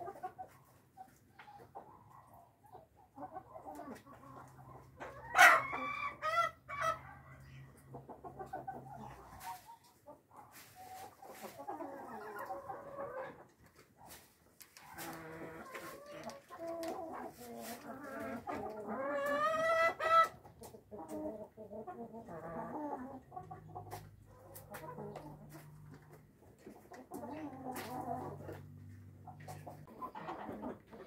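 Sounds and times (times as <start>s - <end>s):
roosters clucking and calling: 0.0s - 31.0s.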